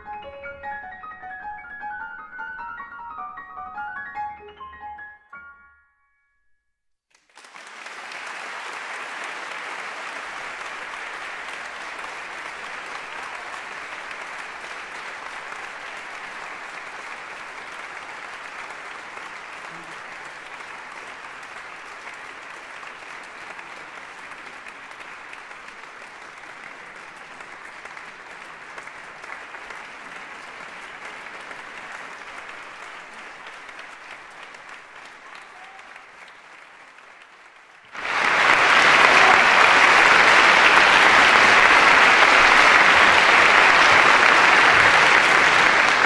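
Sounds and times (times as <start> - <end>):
audience applauding: 7.1 - 46.0.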